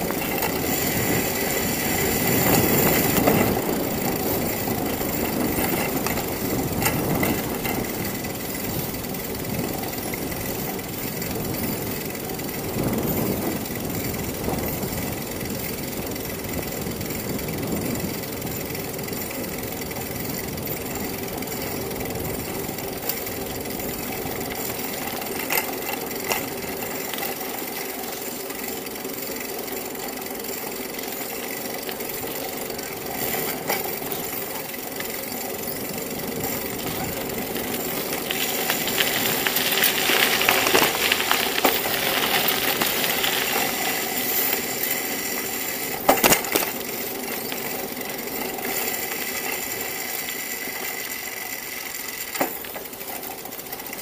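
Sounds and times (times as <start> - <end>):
bicycle rattle and road noise: 0.0 - 54.0.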